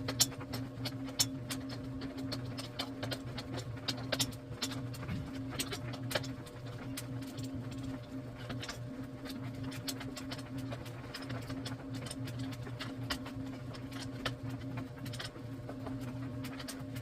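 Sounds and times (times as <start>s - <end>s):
mechanical clicks and ticks: 0.0s - 17.0s.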